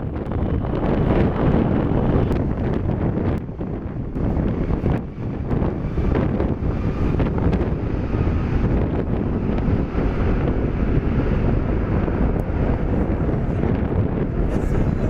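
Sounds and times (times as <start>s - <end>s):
jet engines rumbling: 0.0s - 15.0s
wind buffeting microphone: 0.0s - 15.0s.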